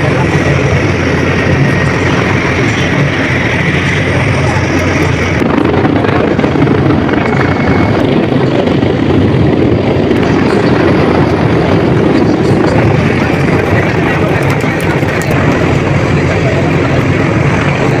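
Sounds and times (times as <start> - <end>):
military aircraft flying low overhead: 0.0 - 18.0.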